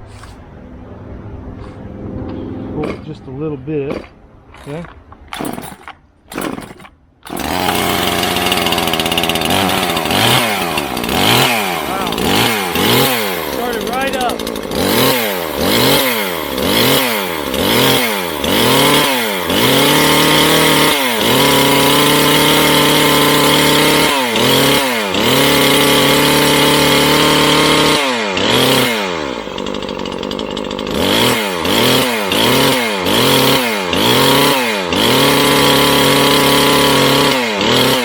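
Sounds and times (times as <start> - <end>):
chainsaw engine revving: 2.7 - 3.3, 3.9 - 38.0.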